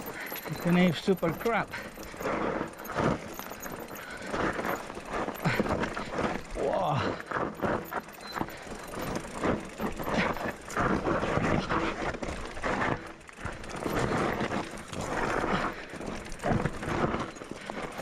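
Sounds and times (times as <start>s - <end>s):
bike knocking and rattling: 0.0s - 18.0s
tyres crunching on gravel: 0.0s - 18.0s.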